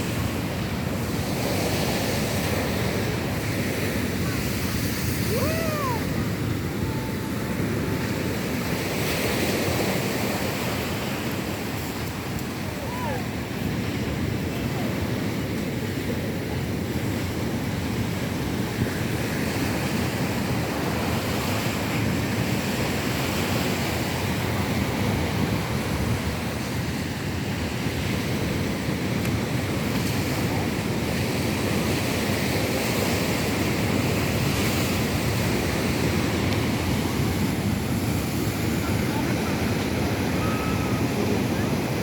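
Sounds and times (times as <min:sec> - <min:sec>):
sea surf on beach: 0:00.0 - 0:42.0
wind buffeting microphone: 0:00.0 - 0:42.0.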